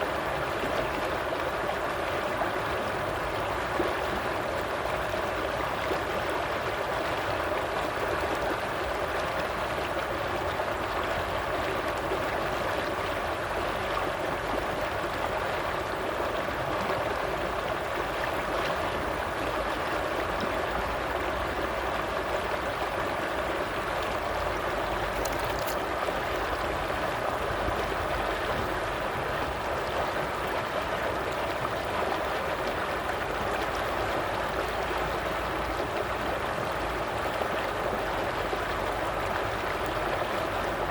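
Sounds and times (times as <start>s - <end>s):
stream of water flowing: 0.0s - 40.9s.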